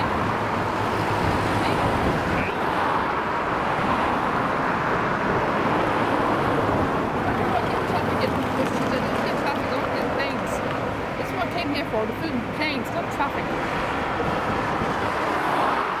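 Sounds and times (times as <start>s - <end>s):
car road noise: 0.0s - 16.0s.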